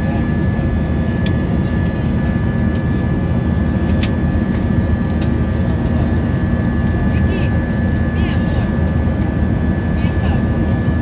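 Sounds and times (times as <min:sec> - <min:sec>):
high engine whine: 0:00.0 - 0:11.0
jet engine roar and rushing air: 0:00.0 - 0:11.0.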